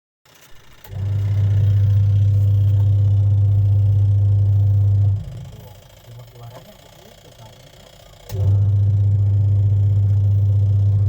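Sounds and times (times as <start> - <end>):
washing machine motor humming: 0.4 - 11.0.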